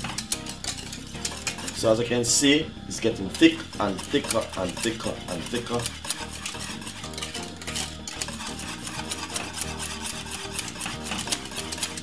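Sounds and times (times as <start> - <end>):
background music: 0.0 - 12.0
whisk scraping a saucepan: 0.0 - 12.0.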